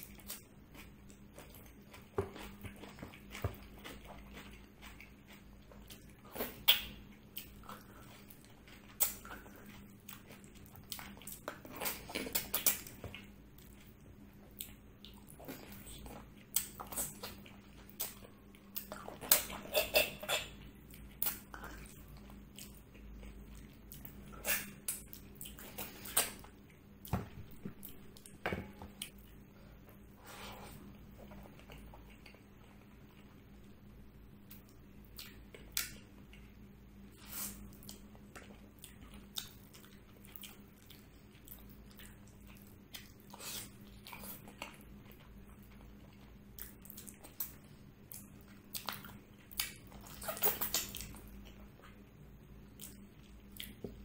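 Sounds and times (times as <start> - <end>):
wet chewing and smacking: 0.0 - 30.0, 31.1 - 33.7, 34.4 - 54.0
faint steady hum: 0.0 - 54.0.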